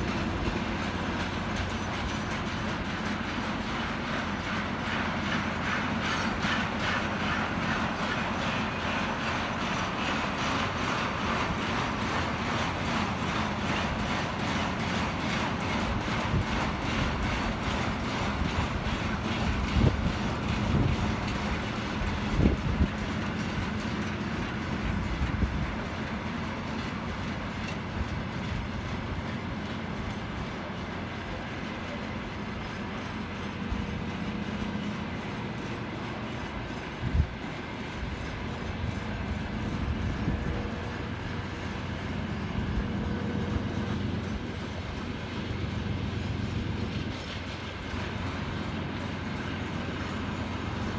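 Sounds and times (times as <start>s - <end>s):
train rumble: 0.0s - 50.9s
train wheels clattering: 0.0s - 50.9s.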